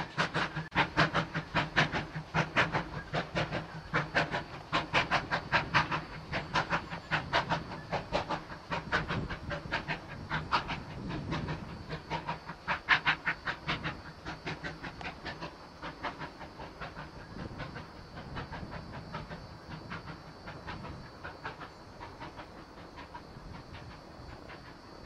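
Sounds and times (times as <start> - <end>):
steam locomotive exhaust beats: 0.0 - 25.0.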